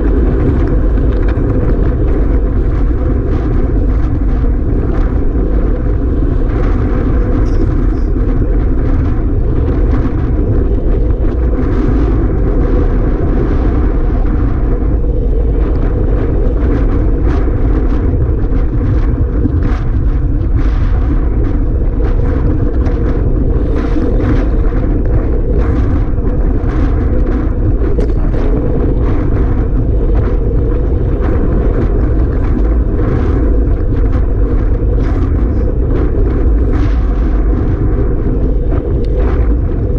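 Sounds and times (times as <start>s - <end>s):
strong wind buffeting microphone: 0.0s - 39.9s.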